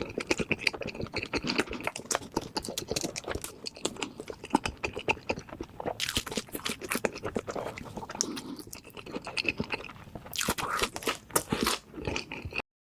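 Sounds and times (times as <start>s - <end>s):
person chewing crunchy food: 0.0s - 12.6s.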